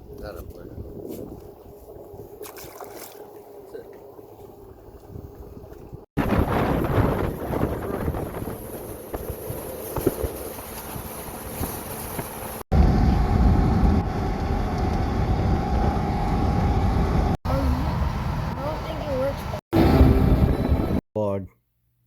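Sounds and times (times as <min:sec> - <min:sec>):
wind rumbling on microphone: 0:00.0 - 0:18.0
boat motor running: 0:01.3 - 0:21.0.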